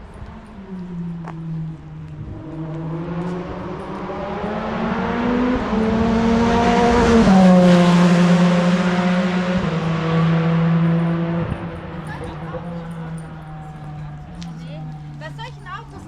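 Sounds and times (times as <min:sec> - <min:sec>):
racing car engine: 0:00.0 - 0:16.0.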